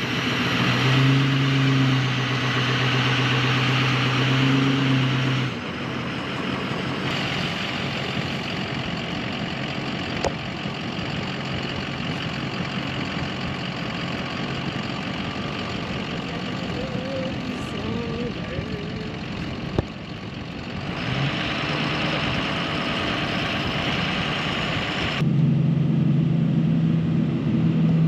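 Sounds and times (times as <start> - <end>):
engine hiss: 0.0 - 25.2
diesel engine idling: 0.0 - 28.0.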